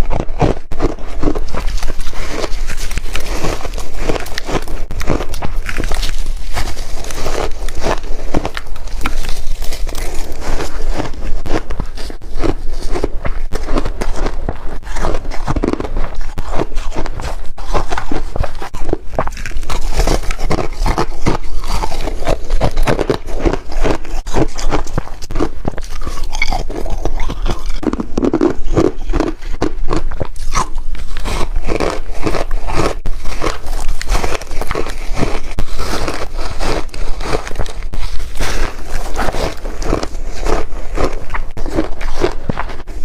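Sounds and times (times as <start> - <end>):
crunching ice chunks: 0.0 - 43.0.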